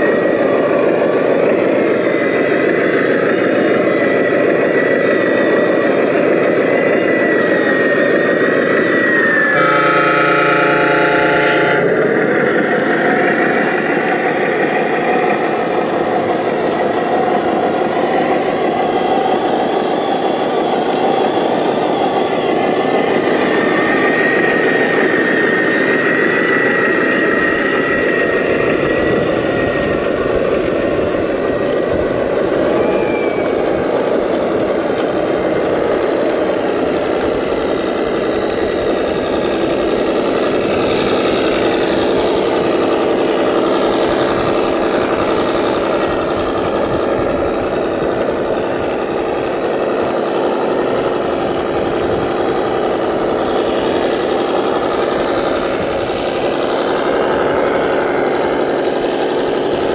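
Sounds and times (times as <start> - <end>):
engine with wavering whine: 0.0 - 59.9.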